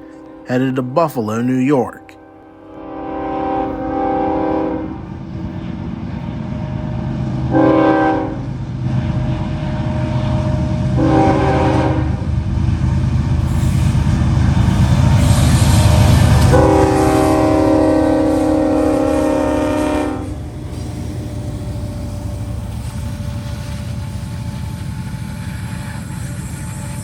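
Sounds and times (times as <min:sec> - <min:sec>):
train horn: 0:00.0 - 0:05.5, 0:06.5 - 0:08.5, 0:09.2 - 0:12.3, 0:14.7 - 0:27.0
train rumble and rail noise: 0:00.0 - 0:27.0.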